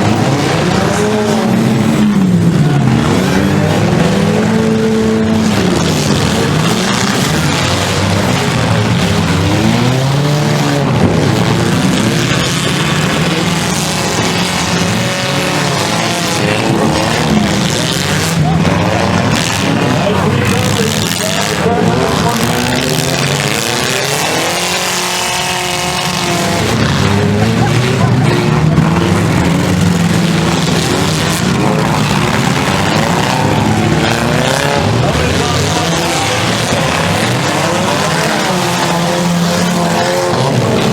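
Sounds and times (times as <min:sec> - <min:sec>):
car engines revving hard: 0:00.0 - 0:40.9
engine and track noise: 0:00.0 - 0:40.9.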